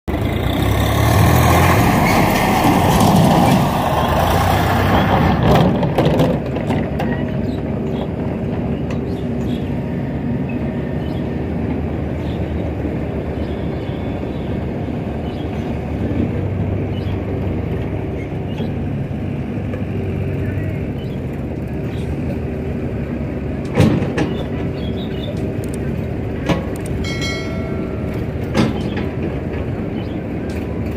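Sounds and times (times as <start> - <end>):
diesel engines running: 0.1 - 30.9.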